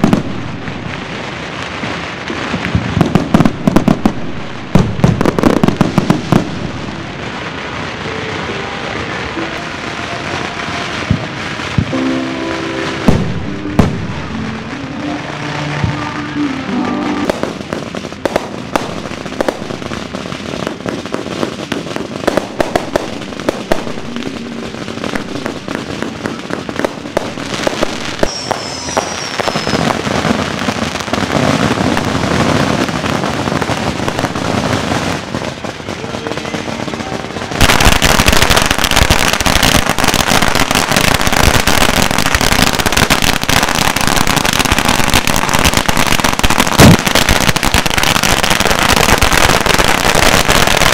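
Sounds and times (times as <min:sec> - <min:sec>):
firecrackers crackling rapidly: 0:00.0 - 0:50.9
fireworks popping and banging: 0:00.0 - 0:50.9.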